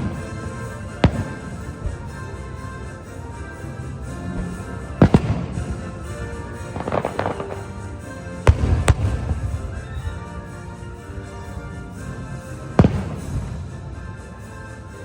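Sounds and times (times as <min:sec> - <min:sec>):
firework bangs: 0:00.0 - 0:10.7, 0:12.6 - 0:14.0
crackling firework bursts: 0:00.0 - 0:14.6
background music: 0:00.0 - 0:15.0.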